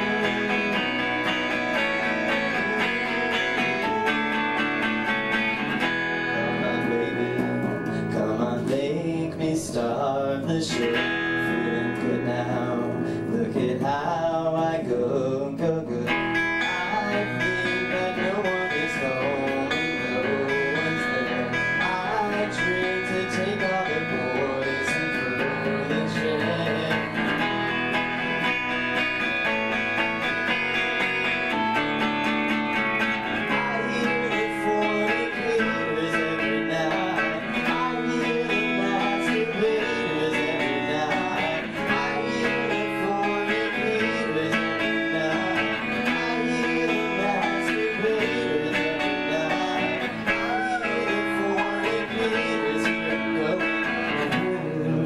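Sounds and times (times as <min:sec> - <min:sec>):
band playing amplified guitars: 0:00.0 - 0:55.0.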